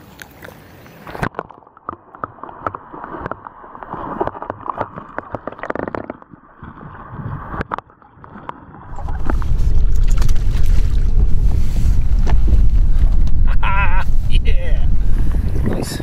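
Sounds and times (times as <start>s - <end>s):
underwater gurgling: 1.2s - 16.0s.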